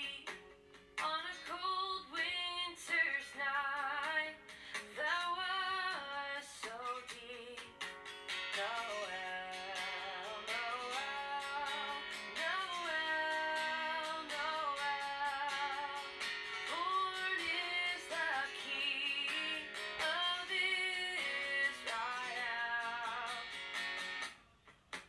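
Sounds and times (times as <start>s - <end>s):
song sung over guitar: 0.0s - 24.4s.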